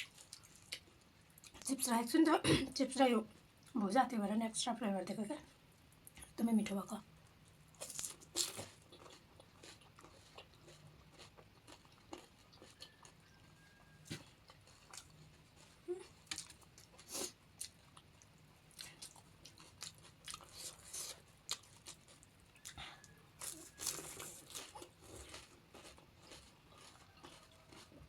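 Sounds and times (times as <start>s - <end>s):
crunching and chewing crisp food: 0.0s - 1.8s, 7.3s - 28.0s.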